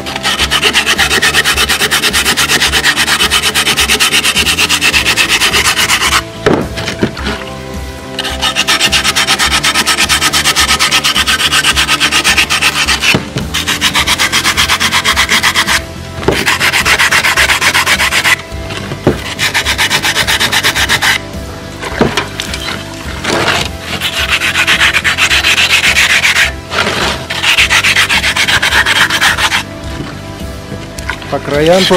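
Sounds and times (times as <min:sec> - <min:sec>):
sandpaper rubbing on brick: 0:00.0 - 0:06.4, 0:08.2 - 0:21.3, 0:22.6 - 0:29.8, 0:31.7 - 0:31.9.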